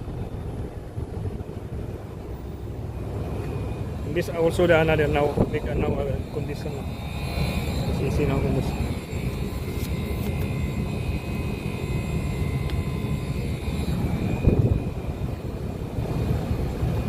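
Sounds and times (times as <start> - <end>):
air conditioner unit humming: 0.0 - 17.0
faint high whine: 0.0 - 17.0.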